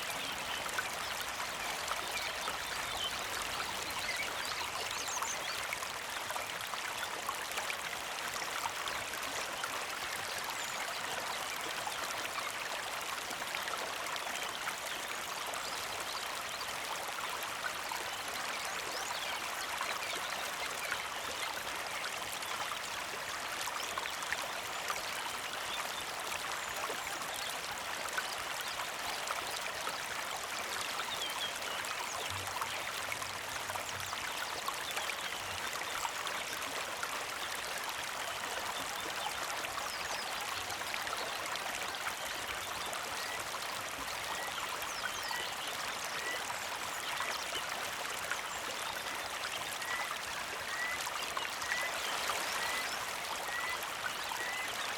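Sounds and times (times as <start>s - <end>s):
creek trickling: 0.0s - 54.9s.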